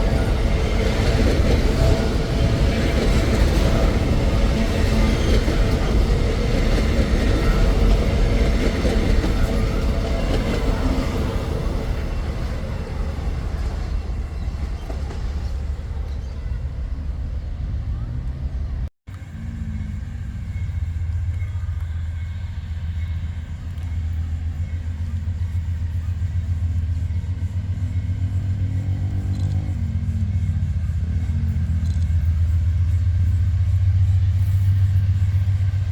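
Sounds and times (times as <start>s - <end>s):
freight train wagons rolling: 0.0s - 35.9s.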